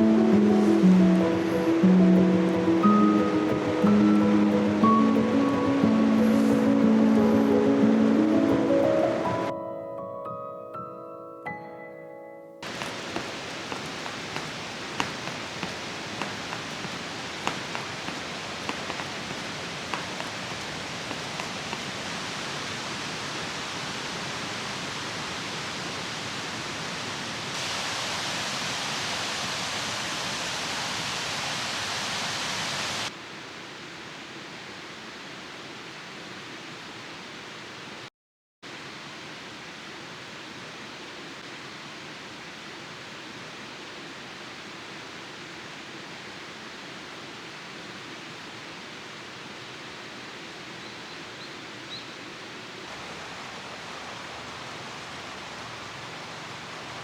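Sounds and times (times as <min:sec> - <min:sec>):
mountain stream rushing: 0:00.0 - 0:09.6, 0:12.6 - 0:38.1, 0:38.7 - 0:57.0.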